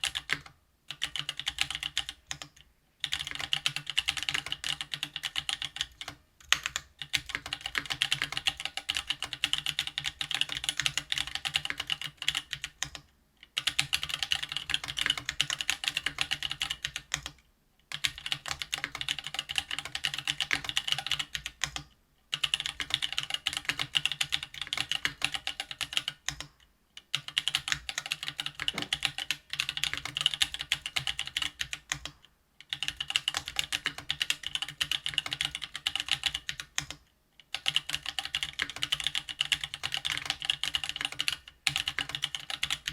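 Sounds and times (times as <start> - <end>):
mechanical keyboard typing: 0.0 - 42.9.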